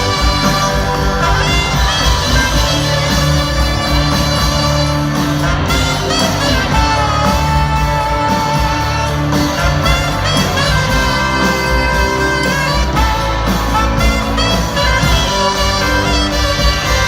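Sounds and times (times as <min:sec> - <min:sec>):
rock band playing instrumental: 0:00.0 - 0:17.0.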